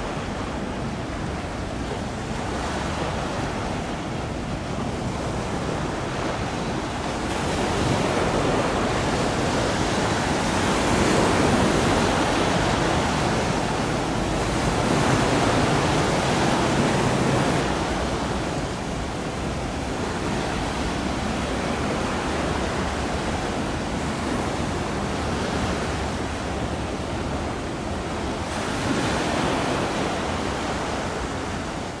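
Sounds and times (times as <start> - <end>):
waves rushing: 0.0 - 32.0
wind: 0.0 - 32.0.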